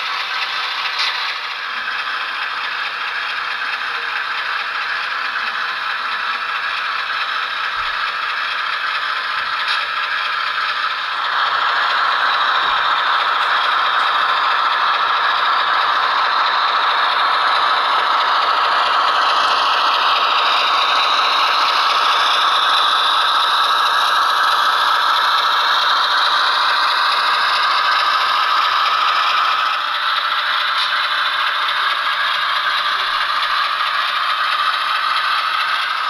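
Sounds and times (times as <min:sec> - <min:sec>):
model train wheels clattering on rails: 0:00.0 - 0:36.0.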